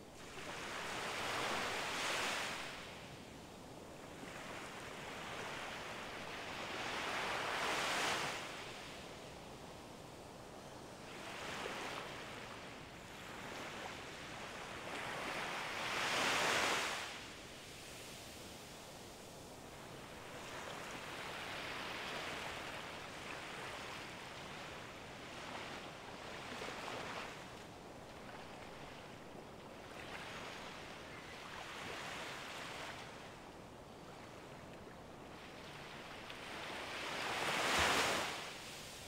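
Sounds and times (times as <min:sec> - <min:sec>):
waves washing on sandy beach: 0:00.2 - 0:10.1, 0:11.0 - 0:39.0.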